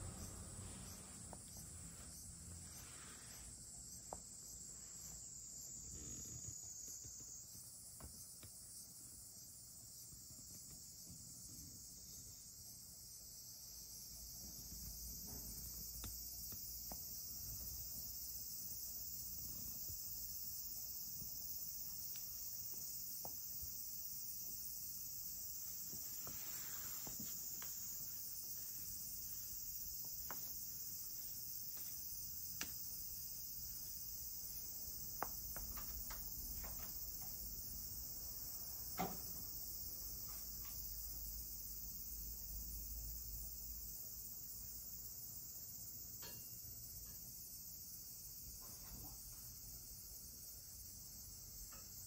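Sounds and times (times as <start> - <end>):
insects chorus: 0.0 - 52.0.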